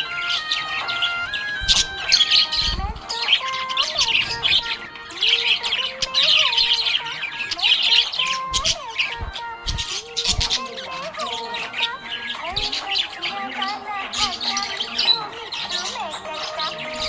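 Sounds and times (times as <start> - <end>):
budgie chirping and warbling: 0.0 - 17.0.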